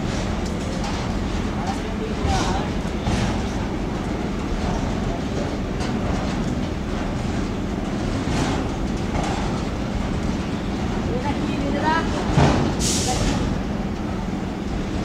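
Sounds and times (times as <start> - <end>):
steel wheels rumbling on rail: 0.0 - 15.0
wheels clicking over rail joints: 0.0 - 15.0.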